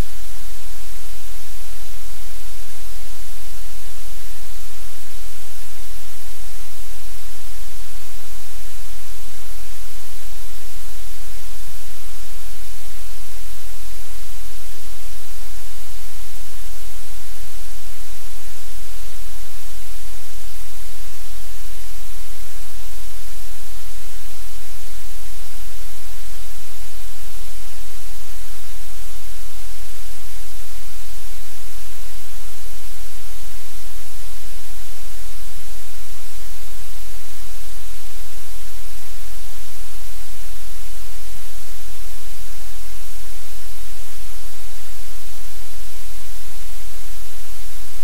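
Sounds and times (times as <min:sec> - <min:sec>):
static hiss: 0:00.0 - 0:48.0.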